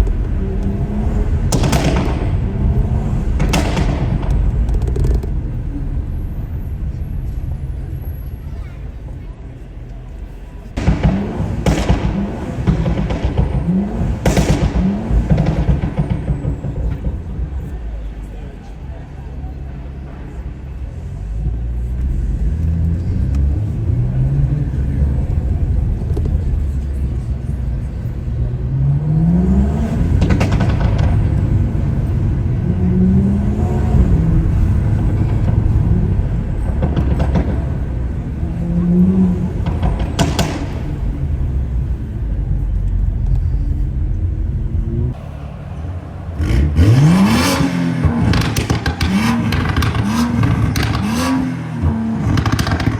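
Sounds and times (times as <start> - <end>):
exhaust pops and crackles: 0.0 - 8.0, 9.8 - 19.0, 21.5 - 28.5, 29.3 - 52.9
car engine revving: 0.0 - 52.9.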